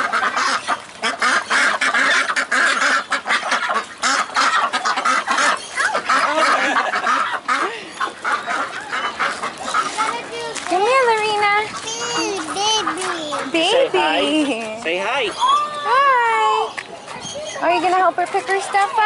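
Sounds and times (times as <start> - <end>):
flock of ducks quacking: 0.0 - 15.6, 16.4 - 19.0.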